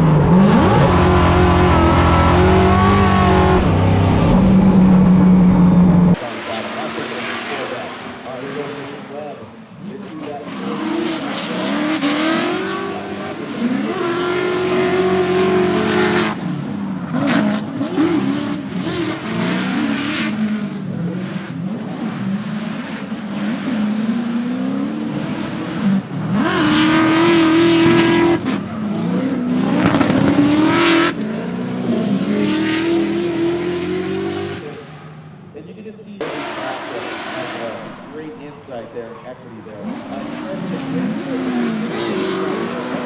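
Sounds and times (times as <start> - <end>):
car engine revving: 0.0 - 43.0
tyres squealing: 0.0 - 43.0.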